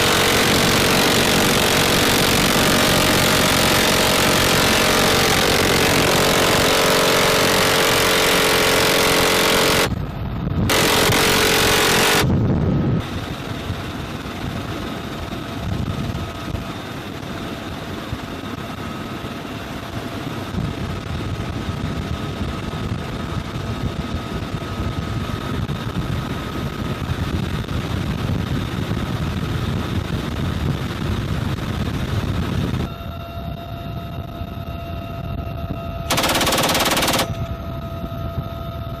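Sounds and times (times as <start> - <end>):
helicopter turbine and rotor: 0.0 - 39.0
loud continuous noise: 0.0 - 39.0.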